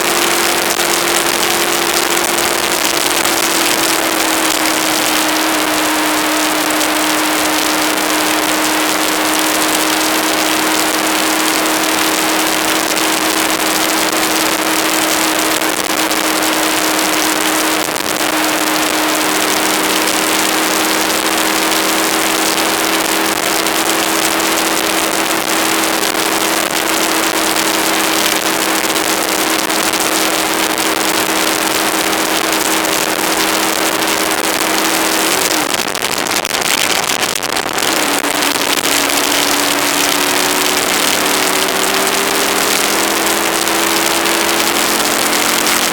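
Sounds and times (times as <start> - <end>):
motorcycle engine cruising: 0.0 - 45.9
wind rush on microphone: 0.0 - 45.9.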